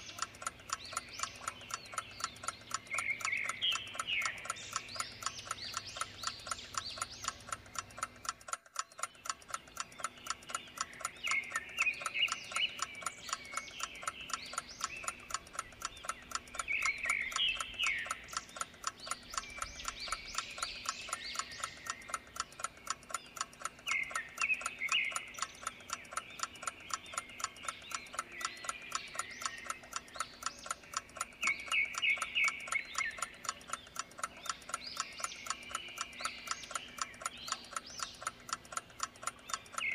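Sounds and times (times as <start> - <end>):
clock ticking: 0.0 - 39.9
high chirping animal calls: 0.0 - 39.9.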